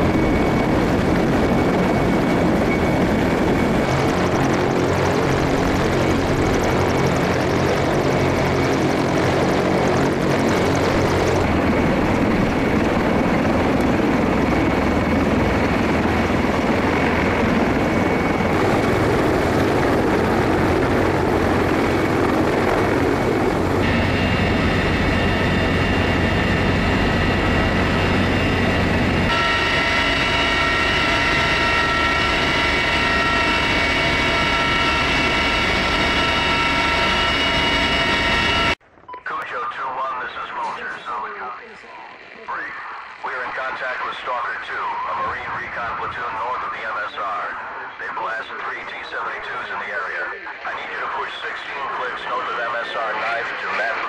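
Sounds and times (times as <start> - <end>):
helicopter rotor and turbine noise: 0.0 - 54.0
multi-tone whine: 0.0 - 54.0.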